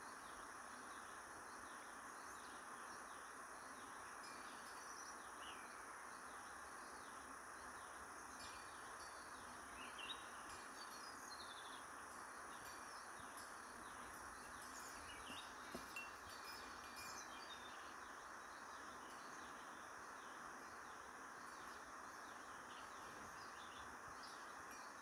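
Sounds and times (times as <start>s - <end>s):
faint bird chirps: 0.0s - 25.0s
steady background hiss: 0.0s - 25.0s.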